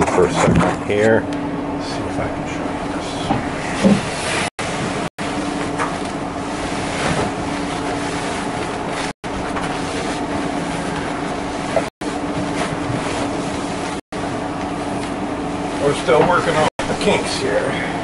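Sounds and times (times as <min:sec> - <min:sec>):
furnace blower running: 0:00.0 - 0:18.0.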